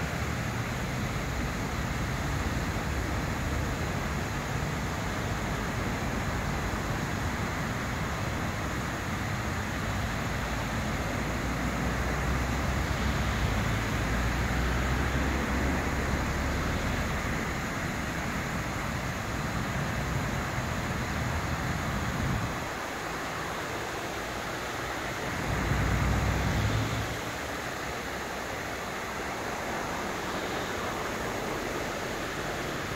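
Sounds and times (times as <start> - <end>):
fountain water splashing: 0.0 - 32.9
road traffic rumble: 0.0 - 32.9.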